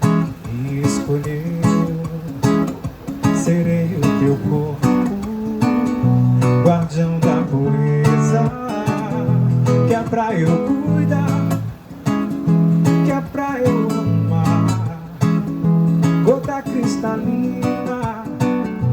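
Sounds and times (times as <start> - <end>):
acoustic guitar strumming: 0.0 - 18.9.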